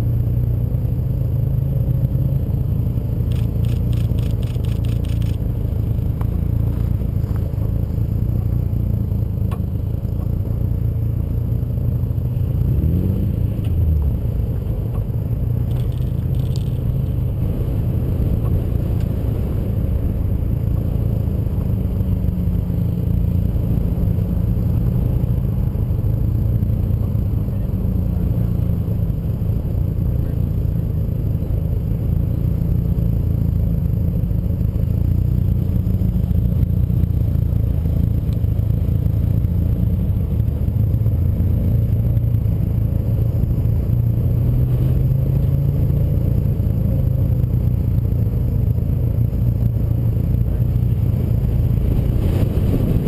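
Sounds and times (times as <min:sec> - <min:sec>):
car engine drone: 0:00.0 - 0:53.0
road and wind rumble: 0:00.0 - 0:53.0.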